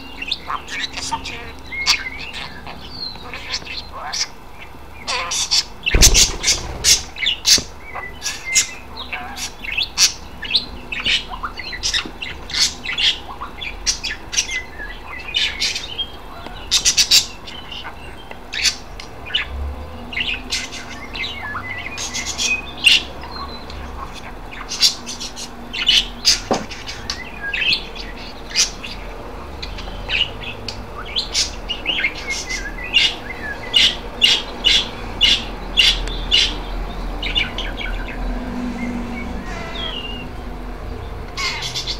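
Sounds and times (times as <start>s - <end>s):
budgerigars chirping: 0.2s - 19.5s, 20.1s - 38.2s, 39.4s - 40.3s, 41.4s - 41.9s.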